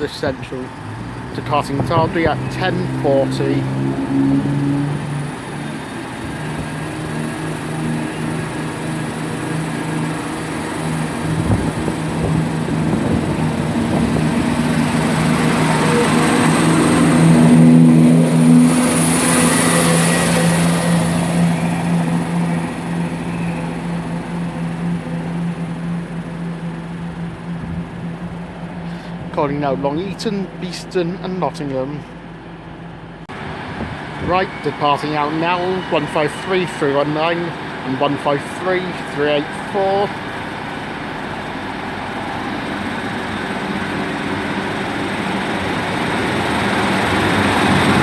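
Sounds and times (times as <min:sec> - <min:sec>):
diesel train engine drone: 0:00.0 - 0:48.0.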